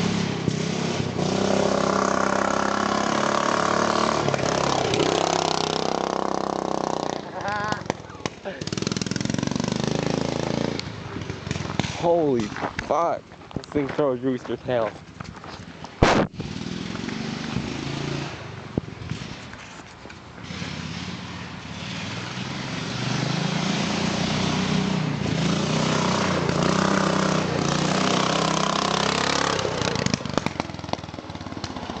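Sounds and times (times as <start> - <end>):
lawn mower engine revving: 0.0 - 12.4, 16.0 - 19.6, 20.4 - 32.0.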